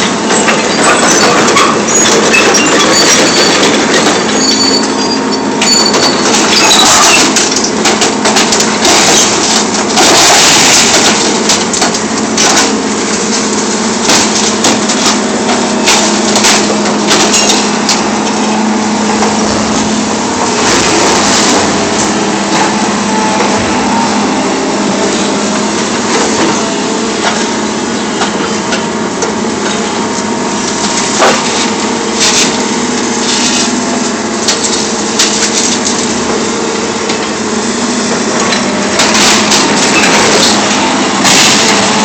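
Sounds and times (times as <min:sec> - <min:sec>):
excavator diesel engine drone: 0:00.0 - 0:42.0
grapple crushing scrap metal: 0:00.0 - 0:42.0.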